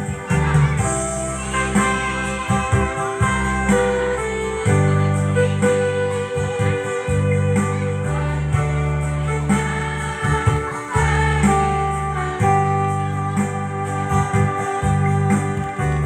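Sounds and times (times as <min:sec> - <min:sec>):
women's choir singing: 0:00.0 - 0:13.4
electronic keyboard: 0:00.0 - 0:16.0
steady bass line: 0:00.0 - 0:16.0.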